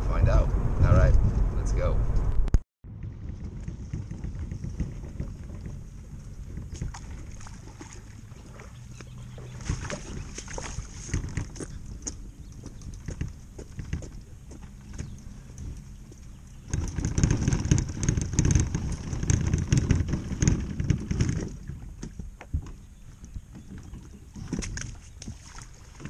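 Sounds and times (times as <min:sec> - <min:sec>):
steady low rumble: 0:00.0 - 0:23.5.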